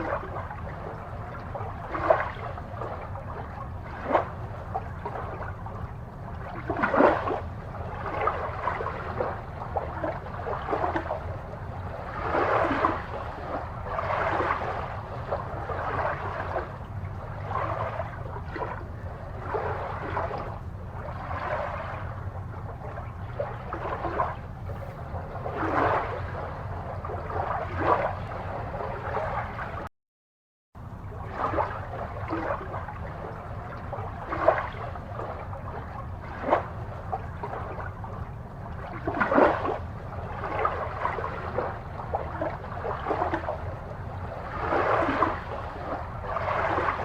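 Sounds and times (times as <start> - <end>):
aquarium water gurgling and splashing: 0.0 - 29.9, 30.8 - 47.0
steady low hum: 0.0 - 29.9, 30.8 - 47.0.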